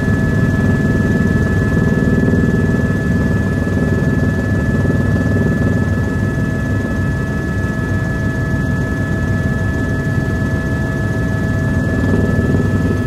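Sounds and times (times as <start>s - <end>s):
helicopter rotor and engine drone: 0.0s - 13.0s.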